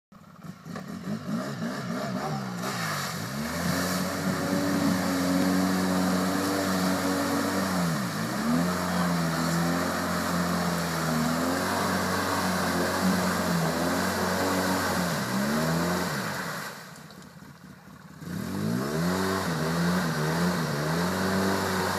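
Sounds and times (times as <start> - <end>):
atv engine revving: 0.2 - 21.9
wheels churning muddy water: 0.3 - 21.9.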